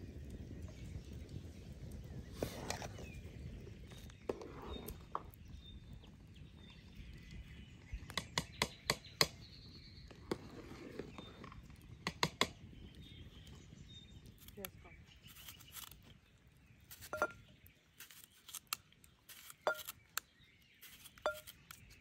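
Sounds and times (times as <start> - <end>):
outdoor background: 0.0 - 22.0.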